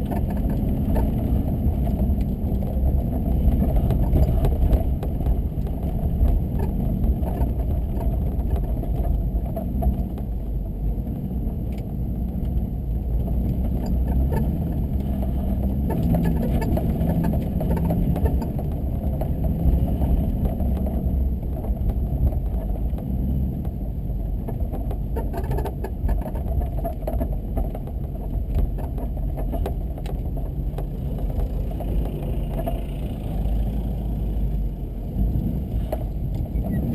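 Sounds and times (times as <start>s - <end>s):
car engine rumble: 0.0s - 36.9s
tyre road noise: 0.0s - 36.9s.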